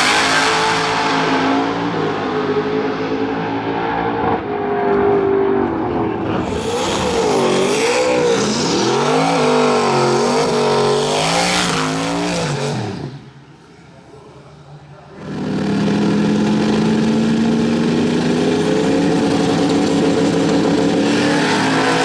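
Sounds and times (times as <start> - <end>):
race car engine revving: 0.0 - 13.5, 15.1 - 22.0.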